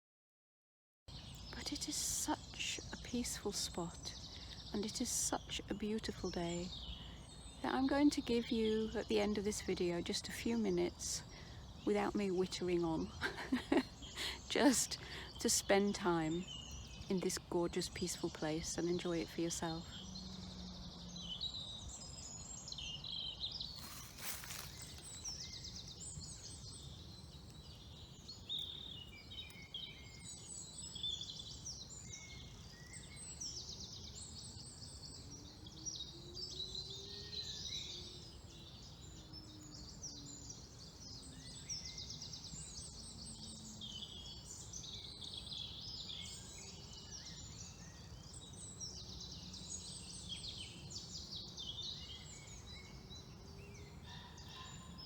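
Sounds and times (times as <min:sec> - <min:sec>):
songbirds chorus: 0:01.1 - 0:55.0.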